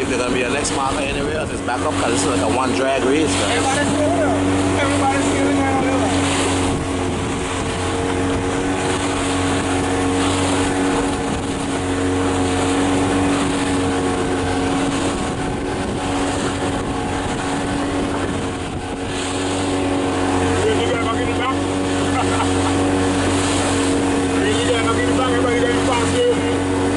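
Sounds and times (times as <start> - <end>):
motorboat engine droning: 0.0 - 26.9.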